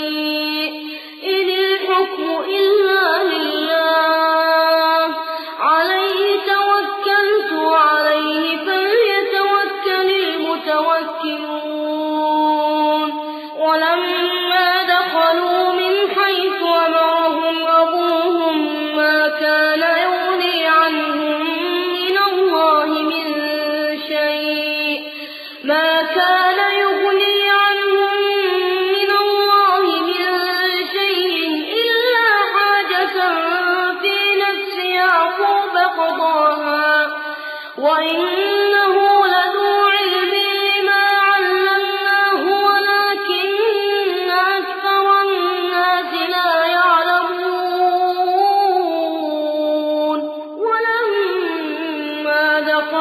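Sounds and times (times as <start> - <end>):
person chanting recitation: 0.0 - 53.0.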